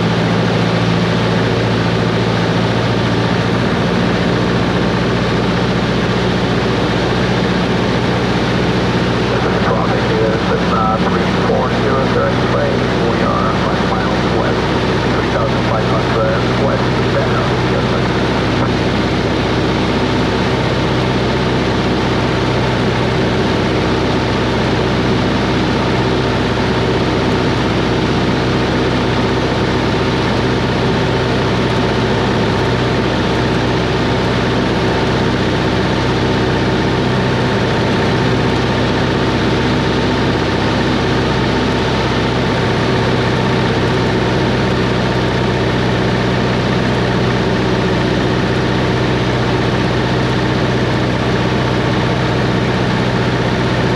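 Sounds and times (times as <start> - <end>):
piston engine droning: 0.0 - 53.9.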